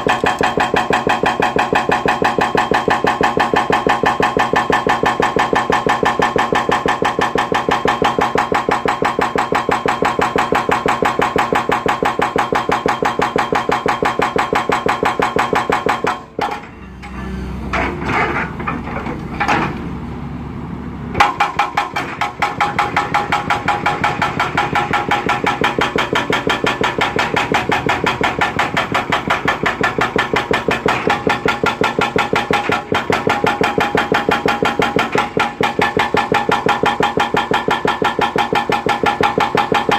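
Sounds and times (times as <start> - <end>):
hydraulic breaker pounding concrete: 0.0 - 20.0, 21.1 - 39.9
engine running: 0.0 - 39.9.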